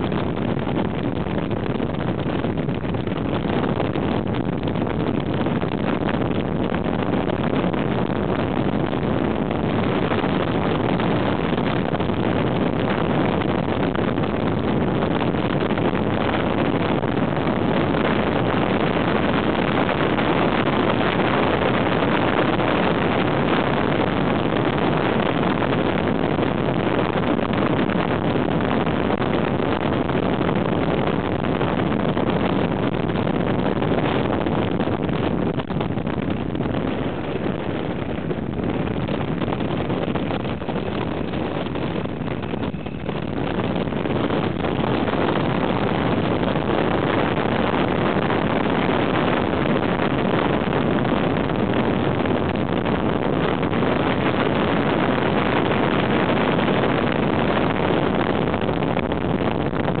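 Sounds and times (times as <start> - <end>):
motorcycle engine drone: 0.0 - 60.0
wind rushing over microphone: 0.0 - 60.0.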